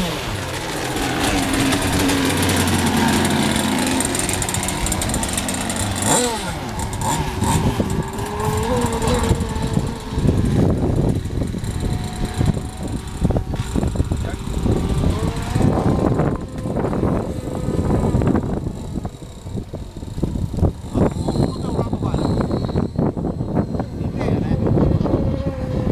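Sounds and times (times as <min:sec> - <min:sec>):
rough low buffeting: 0:00.0 - 0:25.9
small two-stroke boat engine: 0:00.0 - 0:25.9.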